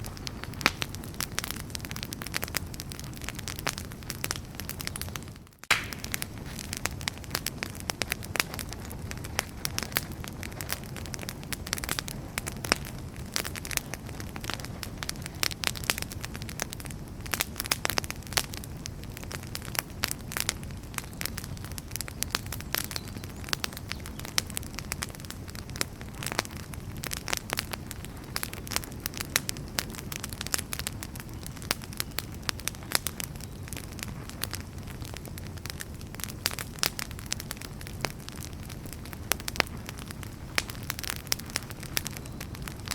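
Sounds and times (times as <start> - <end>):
firewood crackling and popping: 0.0 - 42.9
low rumble of flames: 0.0 - 42.9.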